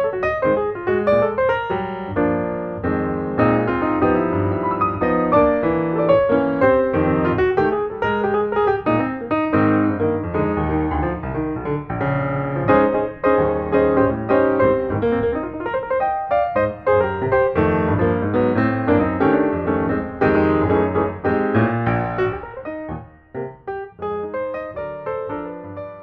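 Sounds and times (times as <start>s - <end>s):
solo piano piece: 0.0s - 26.0s.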